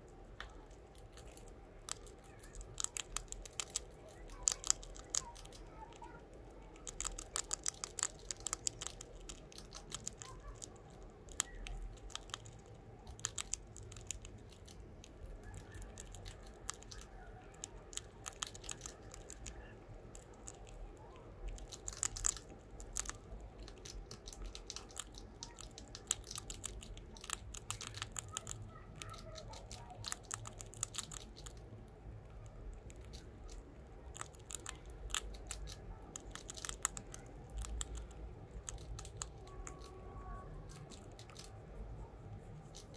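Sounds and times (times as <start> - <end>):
rat gnawing crunchy snack: 0.0 - 42.9.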